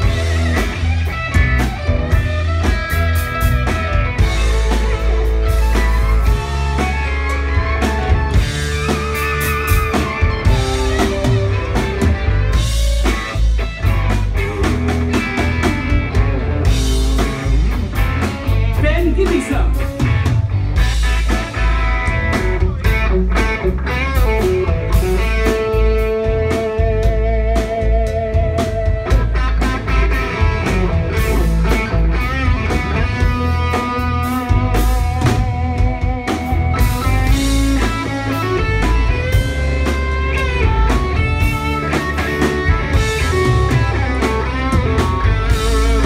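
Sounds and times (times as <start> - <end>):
lead guitar long wavering notes: 0.0 - 46.0
live rock band playing: 0.0 - 46.0.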